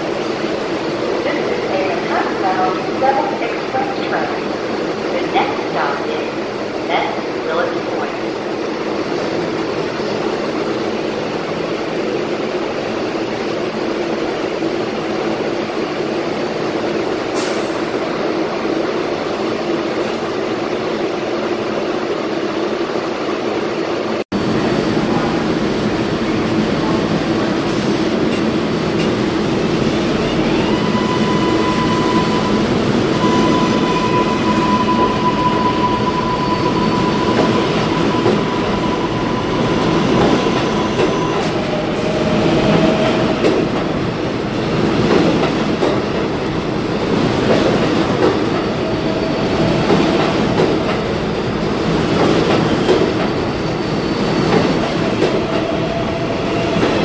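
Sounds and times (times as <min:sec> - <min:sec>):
subway train equipment hum: 0:00.0 - 0:57.0.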